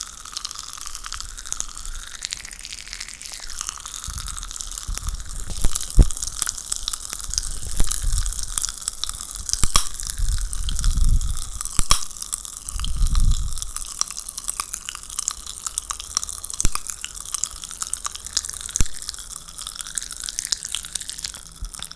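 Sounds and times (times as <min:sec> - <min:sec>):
popping candy crackling: 0:00.0 - 0:21.9.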